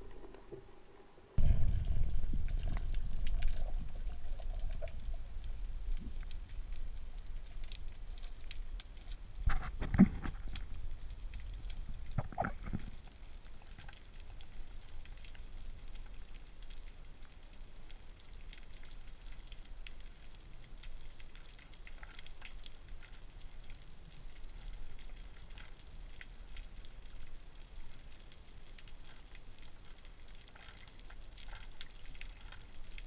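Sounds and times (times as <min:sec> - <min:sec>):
underwater rumble: 0:00.0 - 0:33.0
faint crackling clicks: 0:01.5 - 0:33.0.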